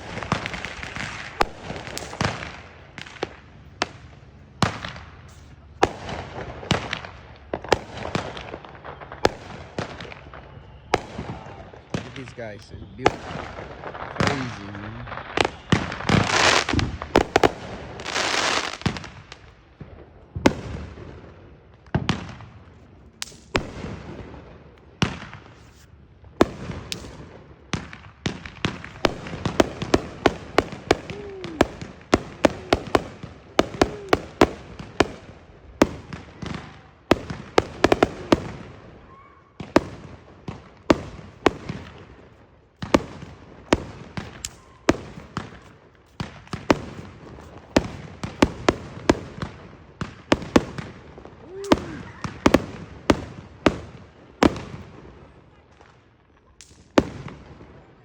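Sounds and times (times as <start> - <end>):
fireworks bangs and booms: 0.0 - 58.0
fireworks crackling volleys: 0.0 - 58.0.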